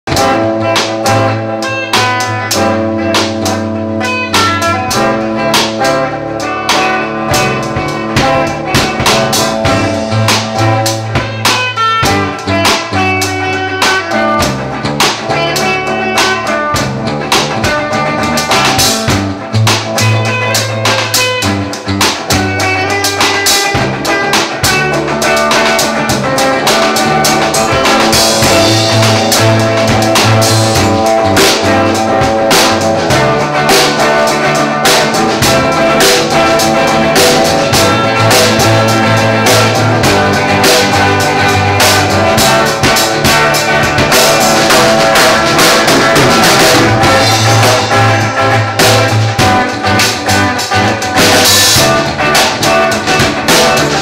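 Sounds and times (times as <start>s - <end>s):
drum kit beat: 0.0s - 54.0s
guitar playing: 0.0s - 54.0s.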